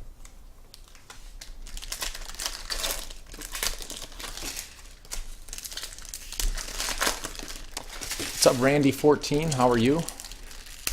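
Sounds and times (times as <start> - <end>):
plastic wrapping crinkling and tearing: 0.7 - 10.9.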